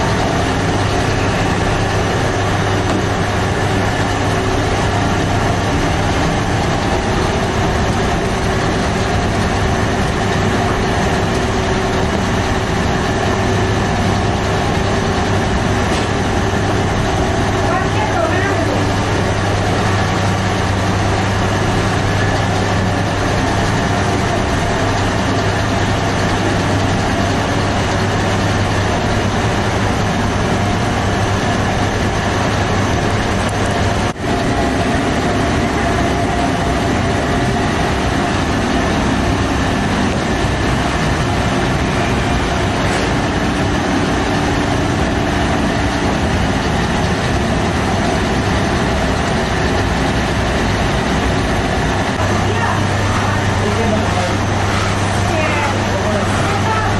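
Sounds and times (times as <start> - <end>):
machinery drone: 0.0 - 56.9.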